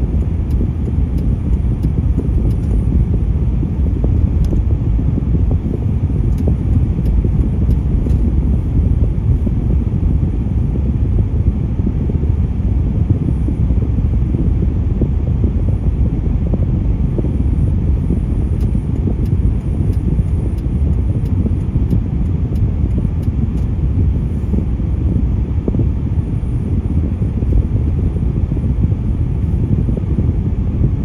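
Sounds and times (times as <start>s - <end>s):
road vehicles rumbling: 0.0s - 31.0s.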